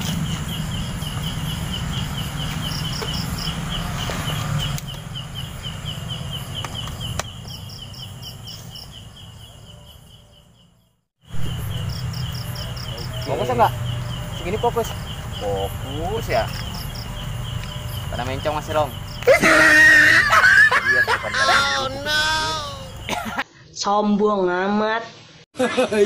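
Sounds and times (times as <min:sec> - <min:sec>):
crickets chirping: 0:00.0 - 0:23.4.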